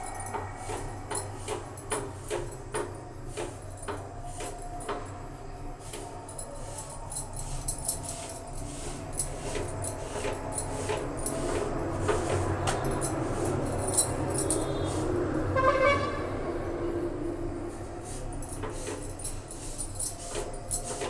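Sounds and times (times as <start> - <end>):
glass bangles clinking: 0.0 - 5.2, 5.8 - 15.1, 18.1 - 21.0.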